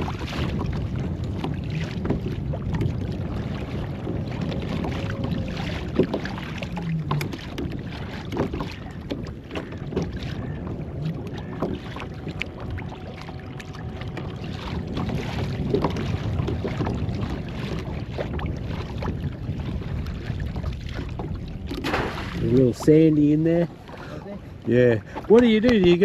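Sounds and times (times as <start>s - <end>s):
water sloshing and splashing: 0.0s - 26.0s
wind buffeting microphone: 0.0s - 26.0s.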